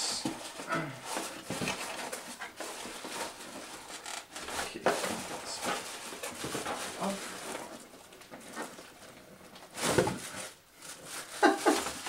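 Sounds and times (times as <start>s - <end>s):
cardboard box rustling: 0.2s - 12.0s
plastic wrapping crinkling: 0.2s - 12.0s.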